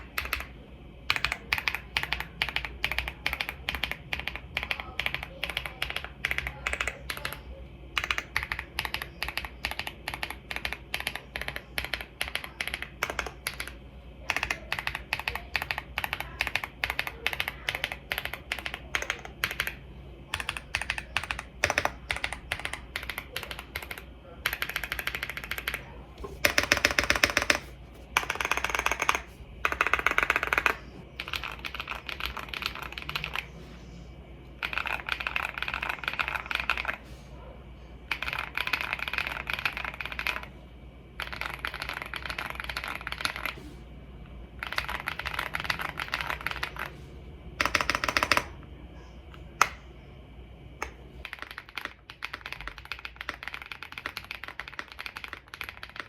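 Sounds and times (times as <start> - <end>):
typing on mechanical keyboard: 0.0 - 33.5, 34.6 - 37.0, 38.1 - 40.5, 41.2 - 43.6, 44.6 - 46.9, 47.6 - 48.6, 50.8 - 56.0.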